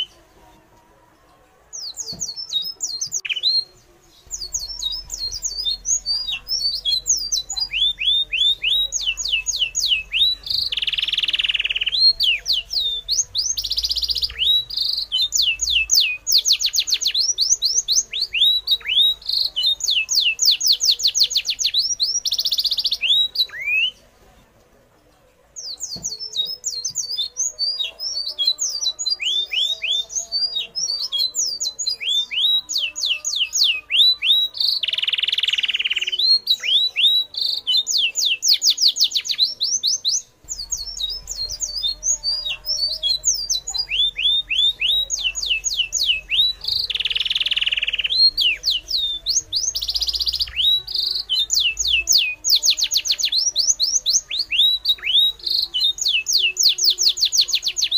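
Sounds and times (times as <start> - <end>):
birds chirping: 0.0 - 0.3, 1.2 - 24.2, 25.5 - 57.9.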